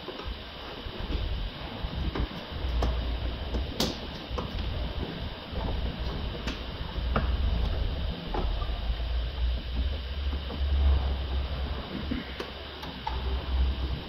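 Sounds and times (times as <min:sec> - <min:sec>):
low rumble: 0:00.8 - 0:14.0.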